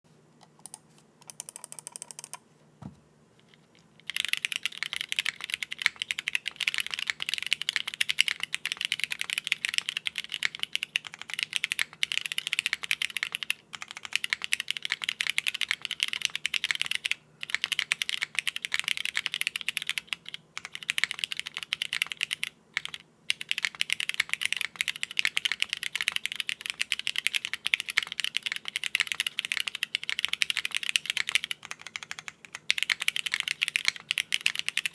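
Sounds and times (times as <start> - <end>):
mechanical keyboard typing: 0.4 - 2.4, 4.0 - 34.9.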